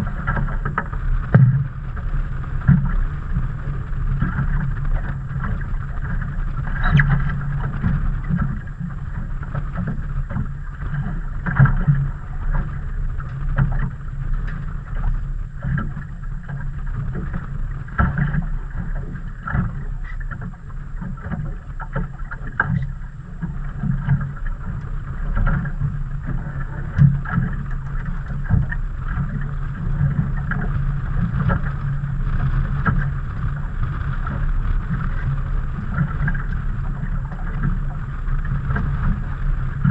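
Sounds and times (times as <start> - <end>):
boat engine rumble: 0.0 - 39.9
waves slapping against hull: 0.0 - 39.9.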